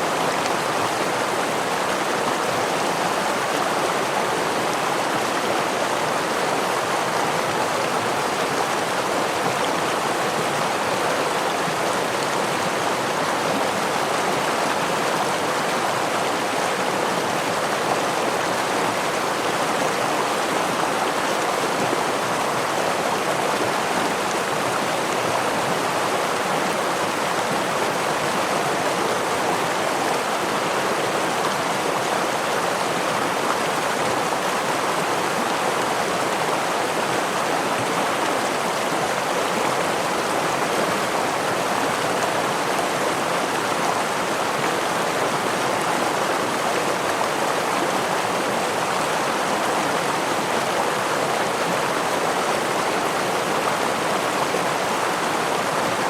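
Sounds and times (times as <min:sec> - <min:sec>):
stream flowing over waterfall: 0:00.0 - 0:56.0.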